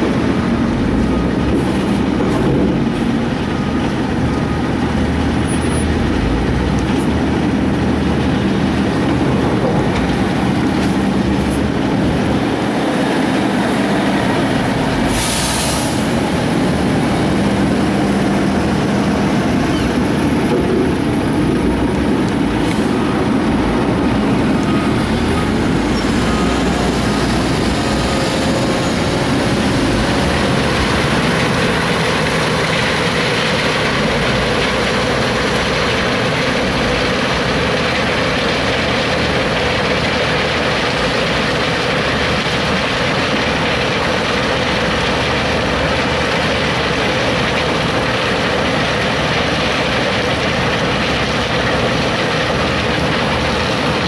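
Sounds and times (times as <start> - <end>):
diesel truck engines droning: 0.0 - 54.0.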